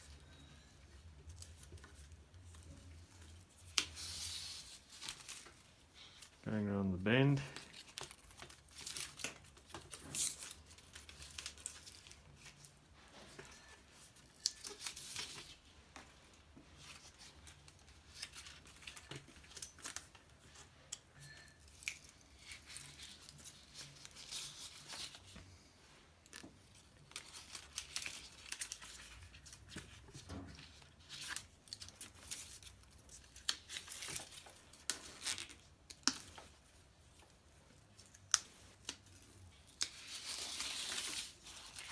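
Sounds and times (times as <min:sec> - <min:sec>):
tape rustling and crackling: 0:00.0 - 0:41.9.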